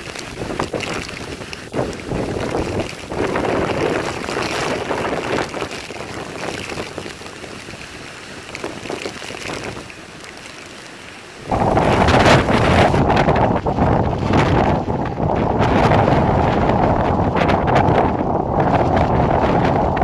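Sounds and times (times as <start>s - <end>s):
wind buffeting microphone: 0.0s - 10.4s, 11.4s - 20.0s
driving rain: 0.0s - 20.0s
gusting wind: 0.0s - 20.0s.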